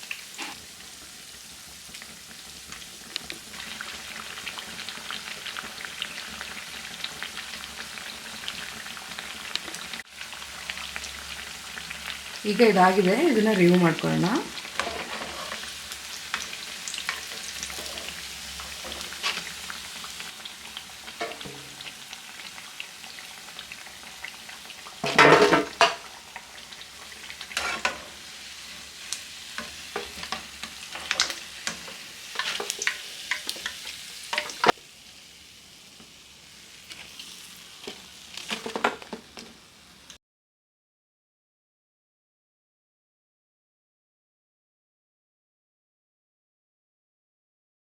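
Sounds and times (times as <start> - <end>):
fritters sizzling in hot oil: 0.0 - 40.2.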